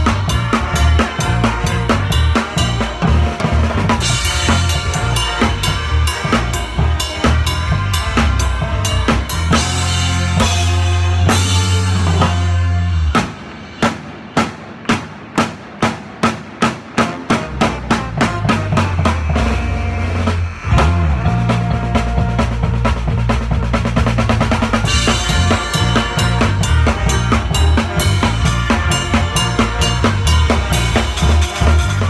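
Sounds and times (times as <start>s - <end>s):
band music with drum kit: 0.0s - 32.0s.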